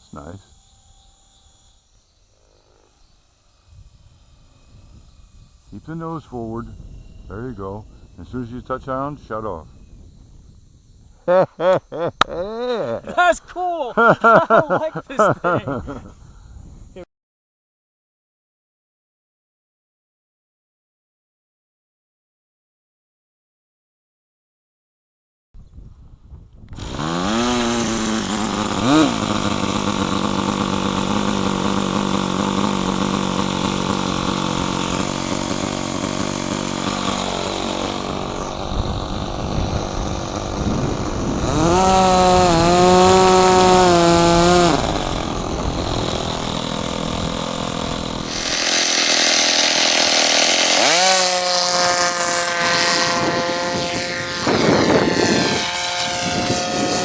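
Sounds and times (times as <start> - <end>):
model aircraft engine running: 0.0 - 17.0, 26.7 - 57.0.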